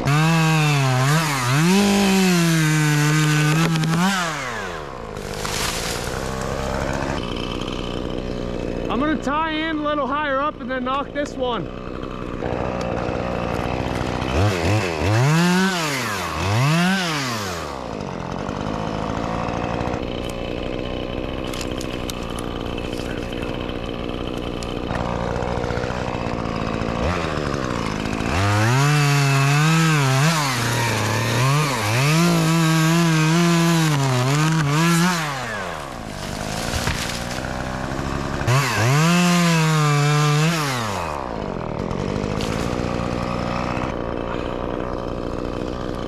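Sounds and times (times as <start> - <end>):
chainsaw revving and idling: 0.0 - 46.0.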